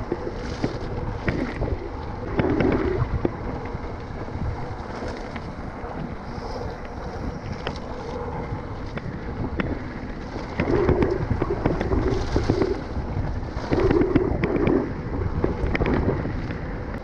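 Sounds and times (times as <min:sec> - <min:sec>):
bike rattling and clicking: 0:00.0 - 0:17.0
bike tyres rumbling: 0:00.0 - 0:17.0
wind buffeting microphone: 0:00.0 - 0:17.0.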